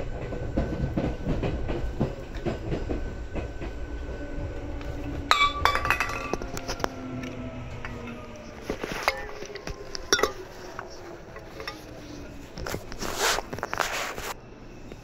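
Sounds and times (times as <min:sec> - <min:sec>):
train running: 0:00.0 - 0:15.0.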